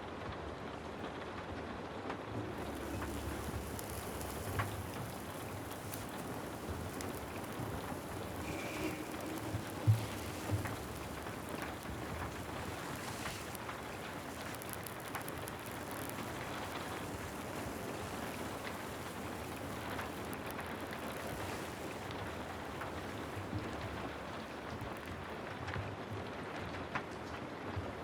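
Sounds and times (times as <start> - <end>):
steady rain patter: 2.1 - 28.0
single raindrops ticking: 2.3 - 25.4.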